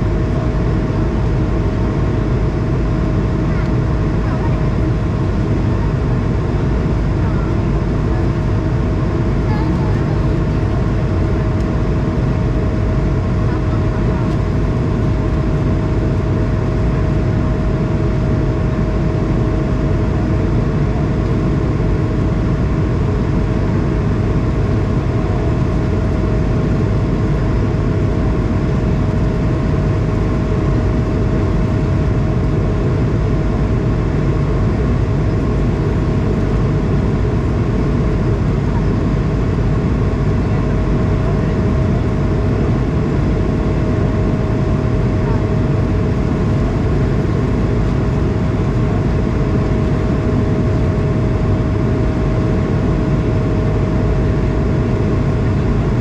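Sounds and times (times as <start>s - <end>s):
jet engines rushing in cabin: 0.0s - 56.0s.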